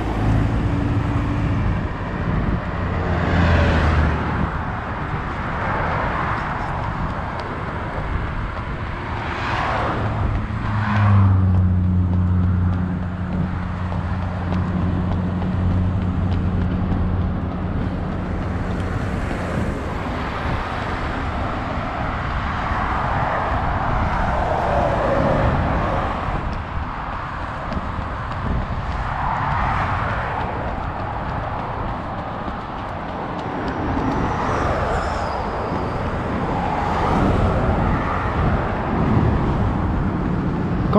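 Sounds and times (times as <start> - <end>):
cars passing: 0.0 - 40.9
low engine hum: 0.0 - 40.9.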